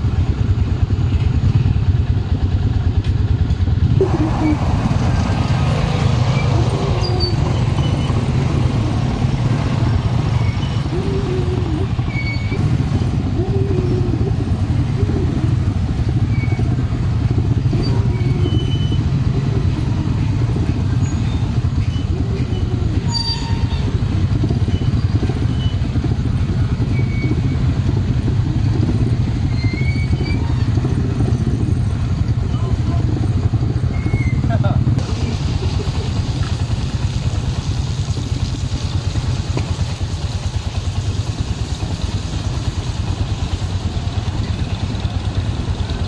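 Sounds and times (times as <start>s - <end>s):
motorcycle engine rumbling: 0.0s - 46.0s.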